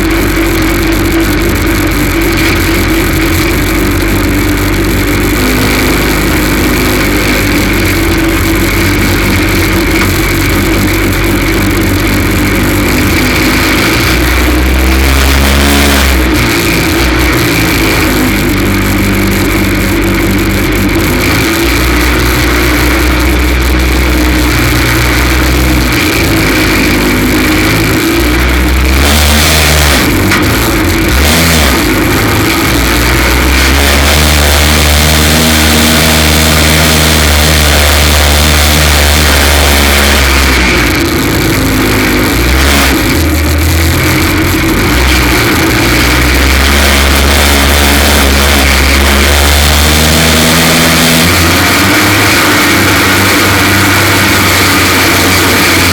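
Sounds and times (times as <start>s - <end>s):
race car engine misfiring: 0.0s - 55.9s.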